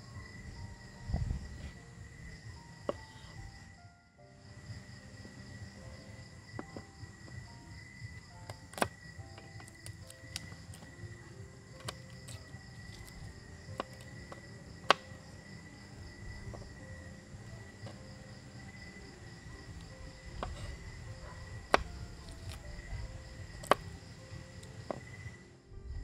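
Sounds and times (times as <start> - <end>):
high insect chorus: 0.0 - 26.0.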